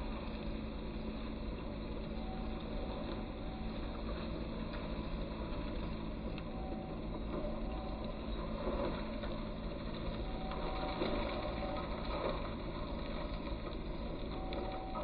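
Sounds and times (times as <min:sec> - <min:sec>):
engine droning under load: 0:00.0 - 0:15.0.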